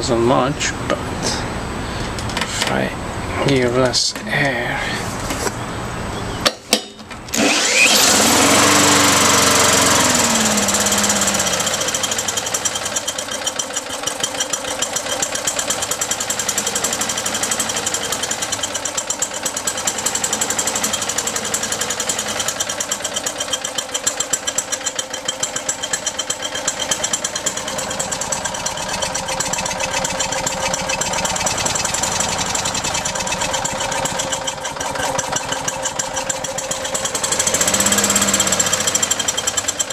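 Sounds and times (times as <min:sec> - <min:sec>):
lawn mower engine running rough: 0:07.2 - 0:39.9.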